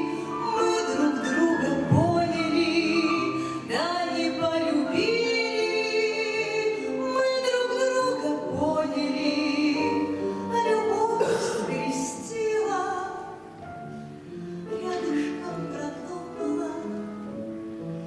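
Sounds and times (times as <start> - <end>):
woman singing with vibrato: 0.0 - 13.5, 14.6 - 17.2.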